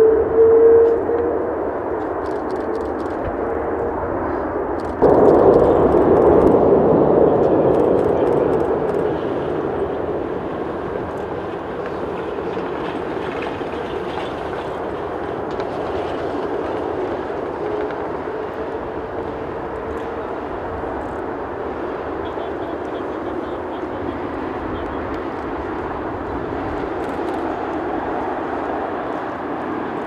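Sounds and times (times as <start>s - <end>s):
jet engine roaring: 0.0s - 30.0s.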